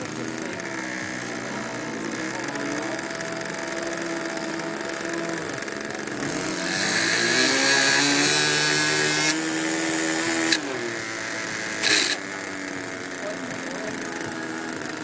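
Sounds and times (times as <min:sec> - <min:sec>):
model airplane engine: 0:00.0 - 0:15.0.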